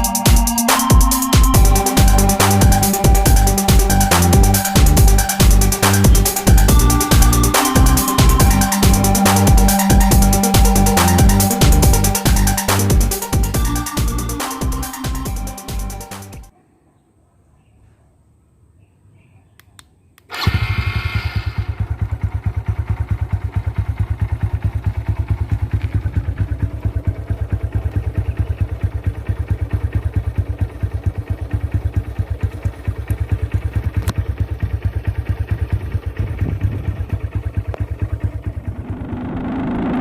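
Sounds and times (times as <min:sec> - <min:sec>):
motorcycle engine idling: 0:00.0 - 0:16.5, 0:20.3 - 0:40.0.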